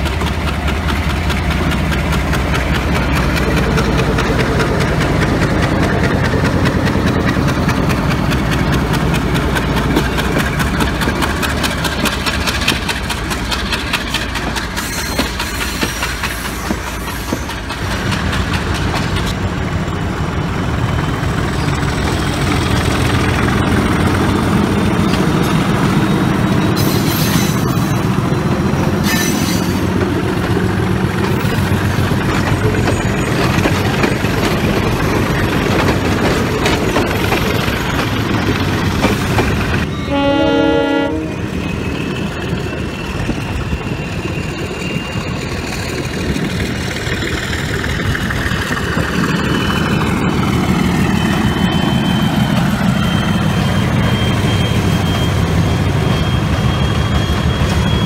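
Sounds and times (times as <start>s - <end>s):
locomotive engine running: 0.0s - 58.0s
train carriages rolling over tracks: 0.0s - 58.0s.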